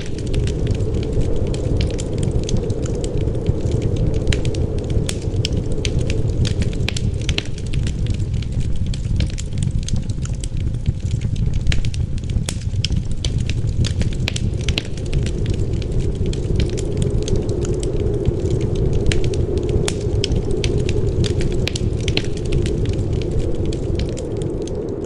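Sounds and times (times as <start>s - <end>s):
low rumble of wind: 0.0s - 25.0s
wood fire crackling and popping: 0.0s - 25.0s.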